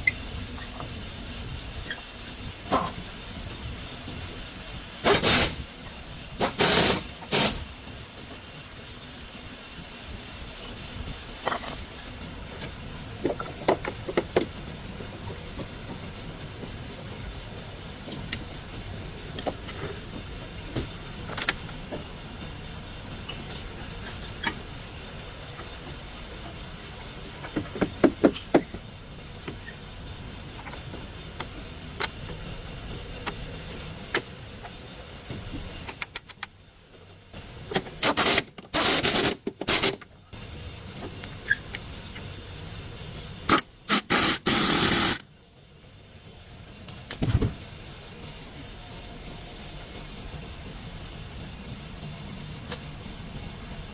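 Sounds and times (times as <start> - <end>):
steady background noise: 0.0 - 53.9.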